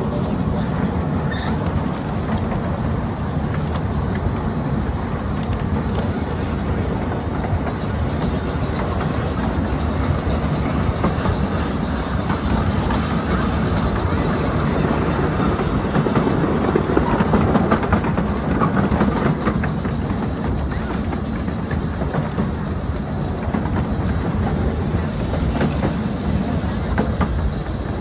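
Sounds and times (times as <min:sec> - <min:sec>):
miniature train wheels rumbling: 0:00.0 - 0:28.0
wheels clicking over rail joints: 0:00.0 - 0:28.0.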